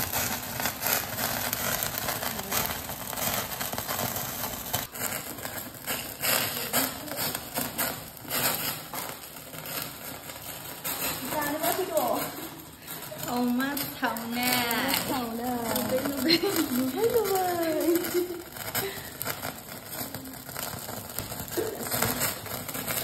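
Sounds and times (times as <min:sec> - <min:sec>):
fat crackling and spitting: 0:00.0 - 0:23.0
steady gas flame hiss: 0:00.0 - 0:23.0.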